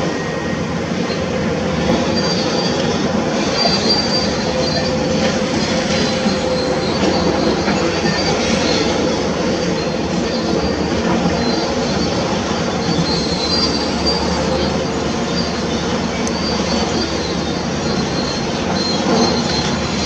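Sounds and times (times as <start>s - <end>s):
high metallic squealing: 0.1s - 20.0s.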